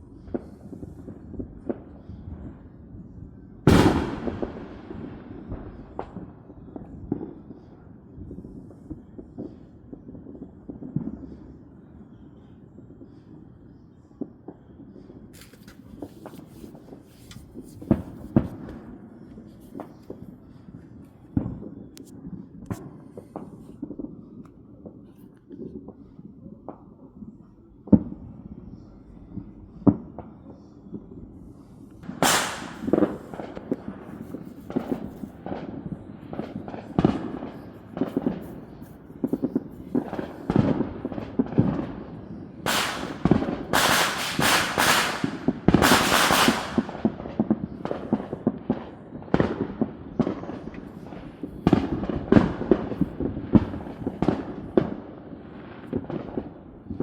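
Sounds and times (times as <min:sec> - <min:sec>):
fireworks bangs and booms: 0:00.0 - 0:31.4, 0:32.0 - 0:57.0
crackling firecracker bursts: 0:03.7 - 0:24.3, 0:32.0 - 0:57.0.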